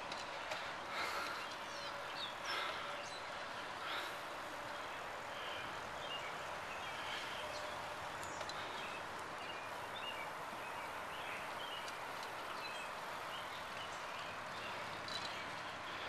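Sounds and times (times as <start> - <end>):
bicycle tyres rolling on pavement: 0.0 - 16.0
small birds chirping: 0.0 - 16.0.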